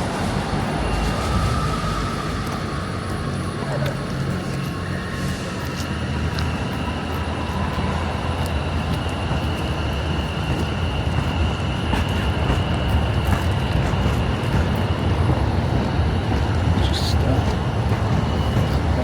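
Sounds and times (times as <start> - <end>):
electric train rumble: 0.0 - 19.0
high train whine: 0.0 - 19.0.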